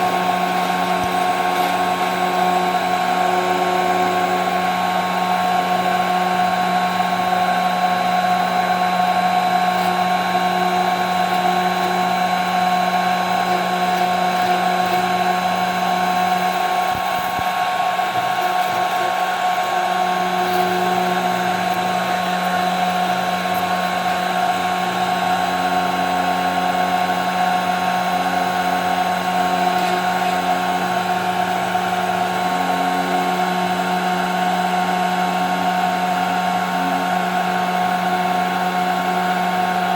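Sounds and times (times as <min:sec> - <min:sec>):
cnc router spindle whining: 0:00.0 - 0:39.9.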